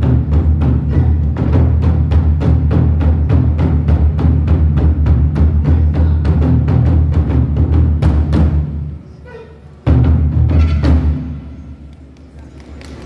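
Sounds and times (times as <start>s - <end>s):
large barrel drum beaten fast: 0.0s - 8.9s, 9.8s - 11.4s.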